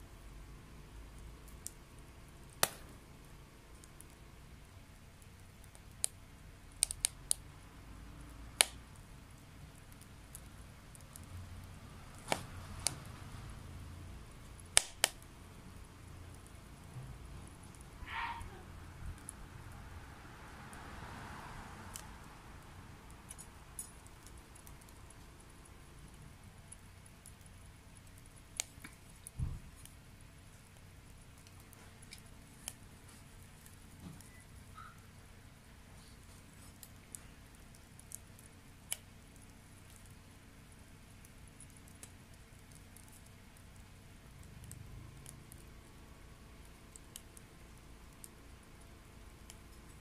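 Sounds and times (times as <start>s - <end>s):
stove fire rumbling: 0.0s - 50.0s
burning wood popping: 0.5s - 50.0s.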